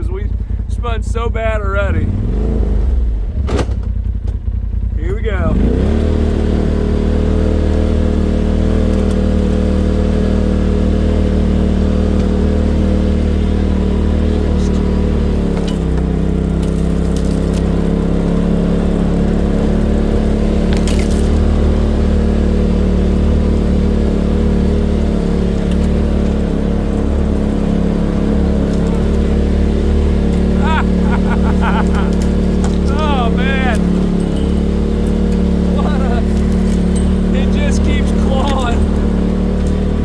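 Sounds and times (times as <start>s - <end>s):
side-by-side engine at high revs: 1.7s - 40.0s.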